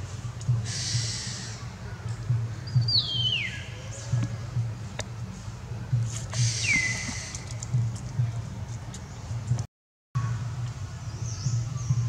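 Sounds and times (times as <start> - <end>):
background music with low beat: 0.0 - 12.0.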